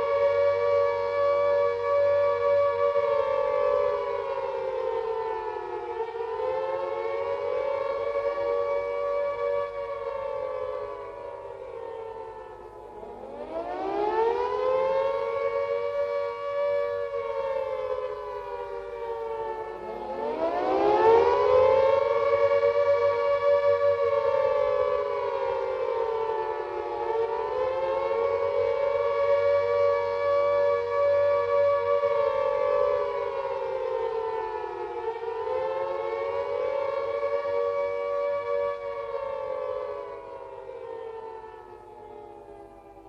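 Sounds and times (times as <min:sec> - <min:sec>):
air-raid siren wailing: 0:00.0 - 0:43.0.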